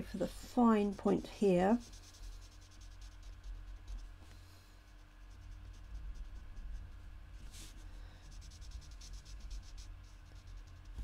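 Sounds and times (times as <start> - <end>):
low steady hum: 0.0 - 11.0
marker scratching on card: 0.1 - 11.0.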